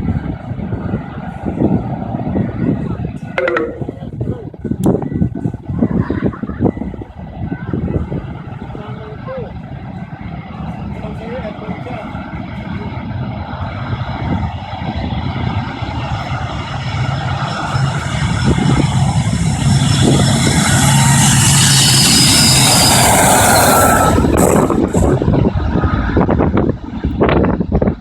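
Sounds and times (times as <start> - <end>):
jet airliner engines at takeoff: 0.0 - 28.0.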